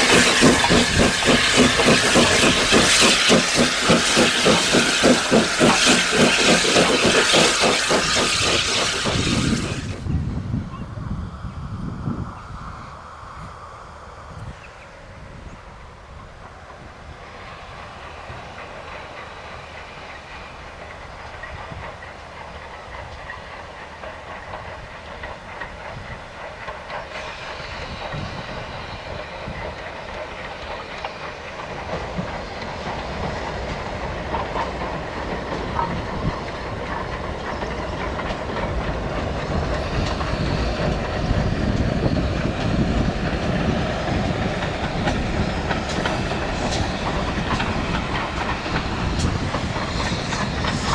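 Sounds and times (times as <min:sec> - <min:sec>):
steam hissing: 0:00.0 - 0:50.9
steam train approaching: 0:00.0 - 0:50.9.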